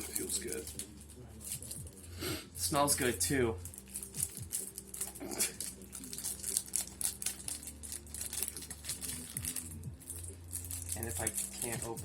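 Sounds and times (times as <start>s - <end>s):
packaging crinkling: 0.0s - 1.9s, 3.6s - 12.0s.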